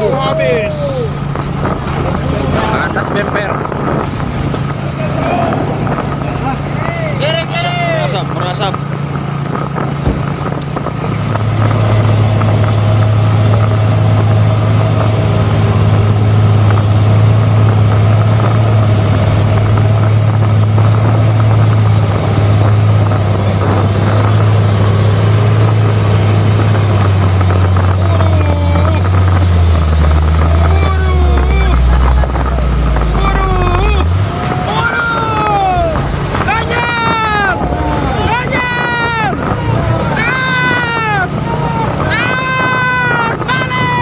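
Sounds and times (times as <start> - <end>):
diesel truck engine droning: 0.0 - 44.0.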